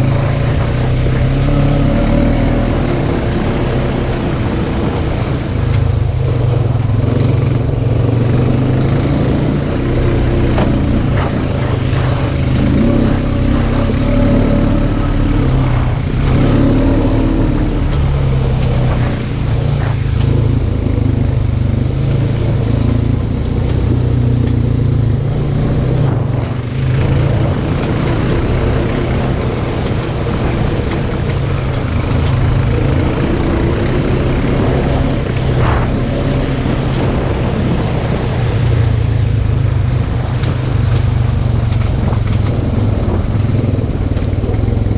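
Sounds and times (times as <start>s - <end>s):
vehicle engine revving: 0.0s - 44.9s.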